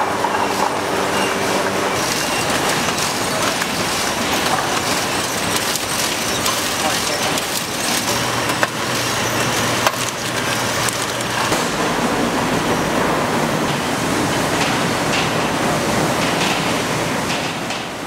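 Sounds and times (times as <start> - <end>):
factory machinery clattering: 0.0 - 18.0.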